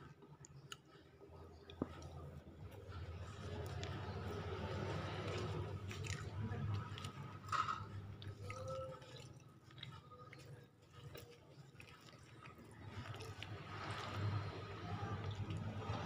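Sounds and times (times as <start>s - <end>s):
chewing rice: 0.0s - 16.0s.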